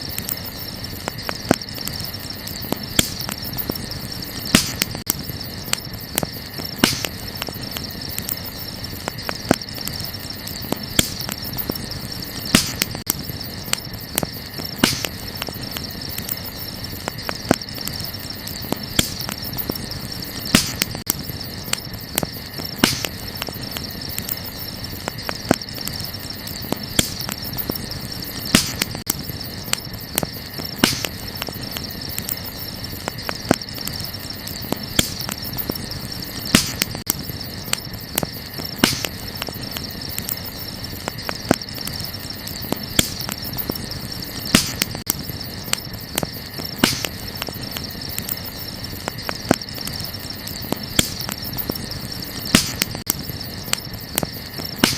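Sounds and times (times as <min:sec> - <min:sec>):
burning wood crackling and popping: 0:00.0 - 0:54.9
night insects chorus: 0:00.0 - 0:54.9.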